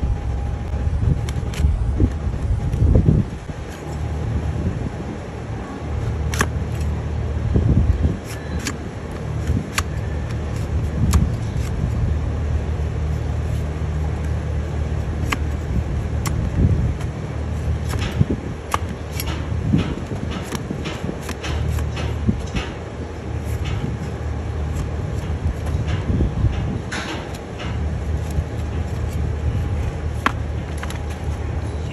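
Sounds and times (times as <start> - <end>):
steady low rumble: 0.0 - 31.9.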